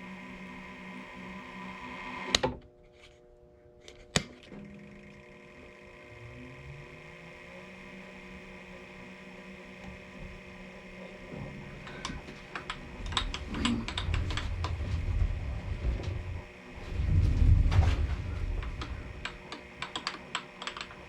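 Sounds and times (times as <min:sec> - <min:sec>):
machine tool humming: 0:00.0 - 0:02.4, 0:04.4 - 0:21.0.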